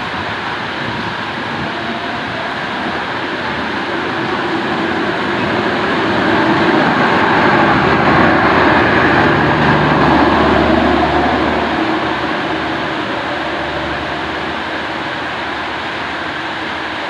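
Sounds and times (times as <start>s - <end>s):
low steady generator hum: 0.0s - 17.0s
train wheels rumbling on rails: 0.0s - 17.0s.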